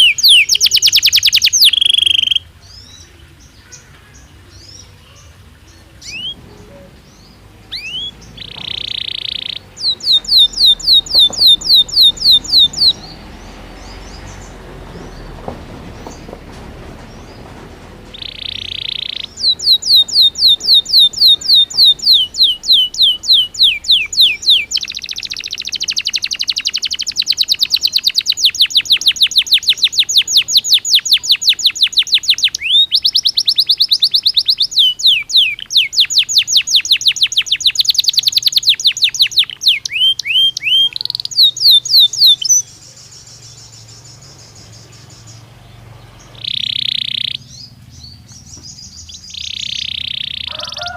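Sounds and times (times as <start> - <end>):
canary singing trills: 0.0 - 50.9.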